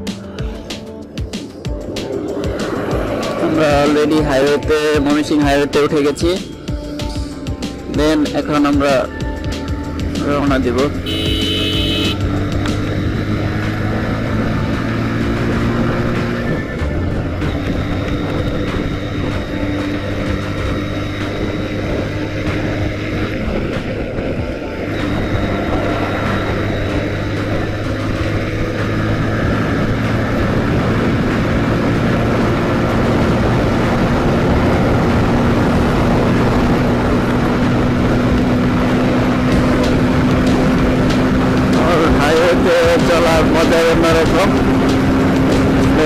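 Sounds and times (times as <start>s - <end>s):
road and wind noise: 0.0s - 46.0s
motorcycle engine running: 7.5s - 46.0s.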